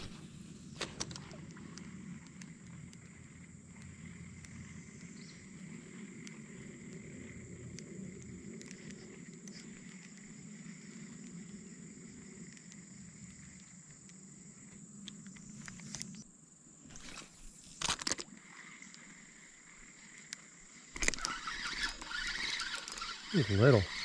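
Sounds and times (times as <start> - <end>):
high thin insect drone: 0.0 - 24.0.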